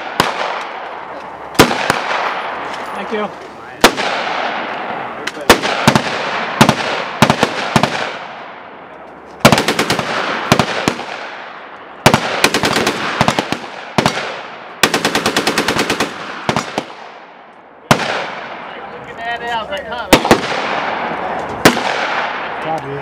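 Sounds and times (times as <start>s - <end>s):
gunshot echo: 0.0s - 8.7s, 9.4s - 15.3s, 16.0s - 18.8s, 20.1s - 22.6s.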